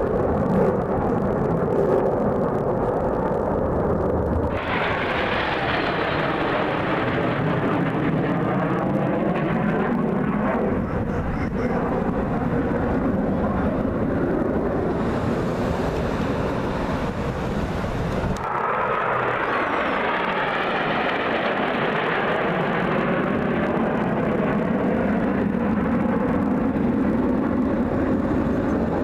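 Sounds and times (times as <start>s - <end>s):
airplane flying past: 4.5s - 29.0s.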